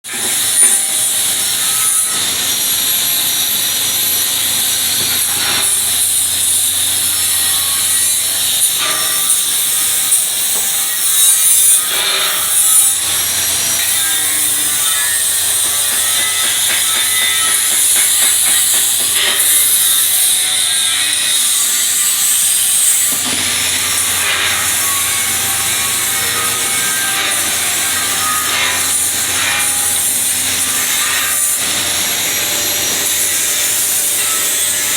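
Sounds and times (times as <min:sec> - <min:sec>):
welding arc crackling hiss: 0:00.1 - 0:34.9.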